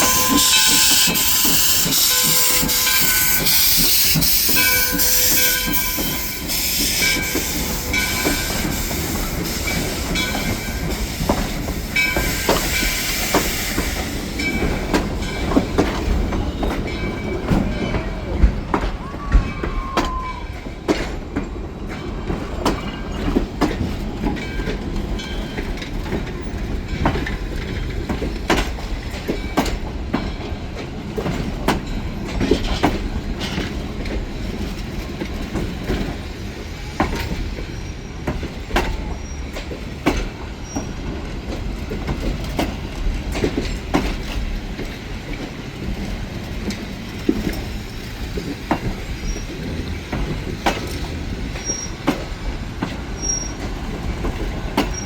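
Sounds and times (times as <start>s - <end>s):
train rumbling on track: 0.0s - 55.0s
wheels clicking over rail joints: 0.1s - 55.0s.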